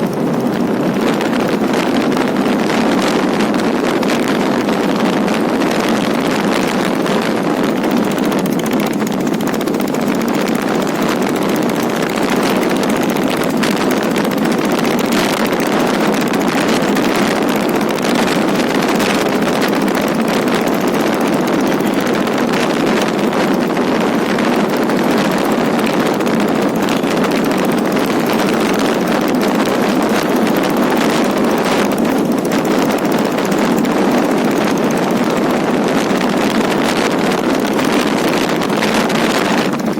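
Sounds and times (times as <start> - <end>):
motorcycle diesel engine running: 0.0 - 39.9.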